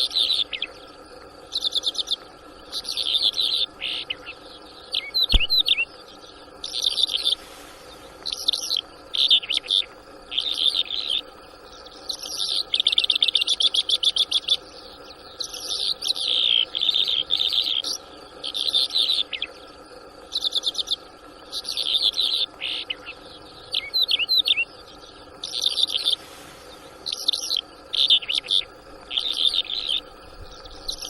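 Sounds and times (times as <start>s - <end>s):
lark singing chirps and trills: 0.0s - 31.0s.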